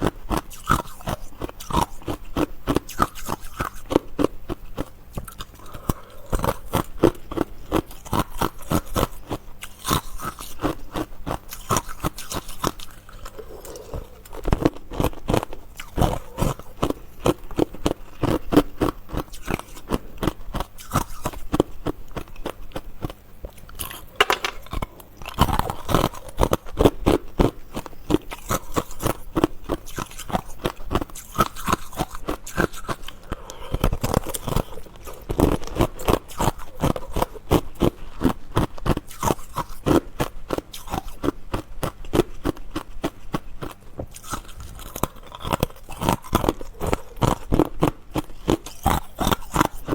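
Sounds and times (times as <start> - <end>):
chewing and crunching ice: 0.0 - 49.9.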